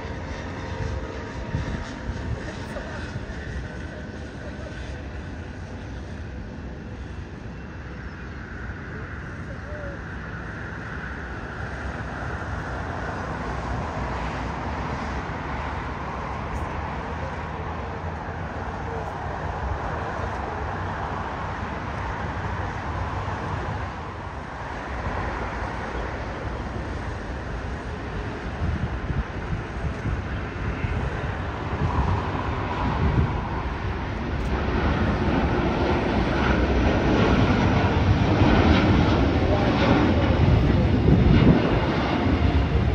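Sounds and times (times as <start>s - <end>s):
airport ground noise: 0.0s - 42.9s
distant jet engines: 0.0s - 42.9s.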